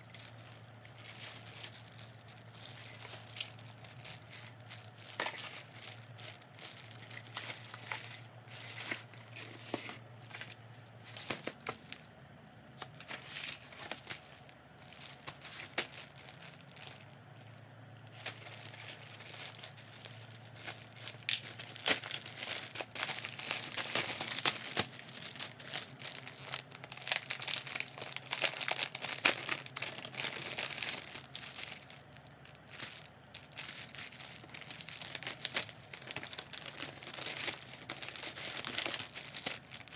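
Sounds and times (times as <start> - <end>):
packaging crinkling and tearing: 0.0 - 12.1, 12.7 - 39.9.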